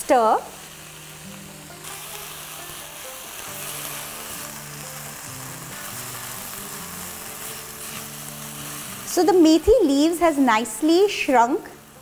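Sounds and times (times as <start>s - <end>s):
leaves sizzling in hot oil: 0.0s - 12.0s
soft background music: 0.0s - 12.0s.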